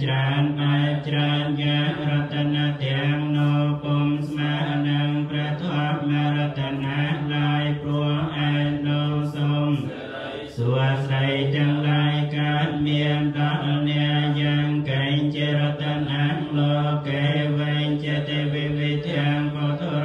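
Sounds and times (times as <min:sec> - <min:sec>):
monks chanting: 0:00.0 - 0:20.0.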